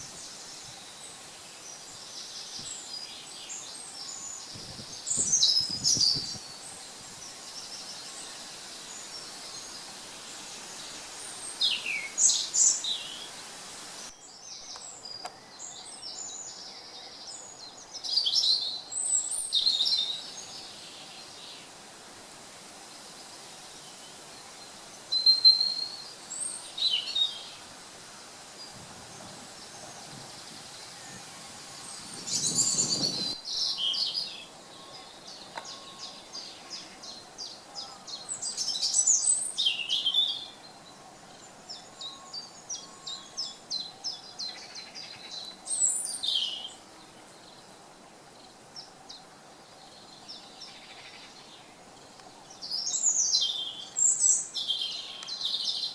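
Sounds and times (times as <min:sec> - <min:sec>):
faint hiss: 0:00.0 - 0:55.9
songbirds singing: 0:00.0 - 0:55.9.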